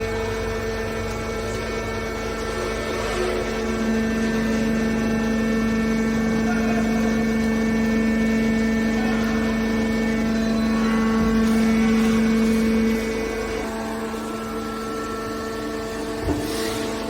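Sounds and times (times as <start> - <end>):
motor and hydraulic pump humming: 0.0 - 17.0.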